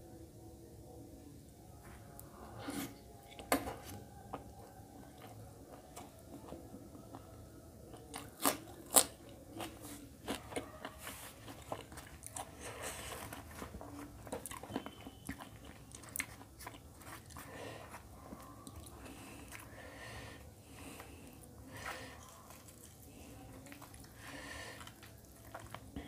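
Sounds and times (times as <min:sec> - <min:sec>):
chewing with small crunches: 0:02.1 - 0:26.0.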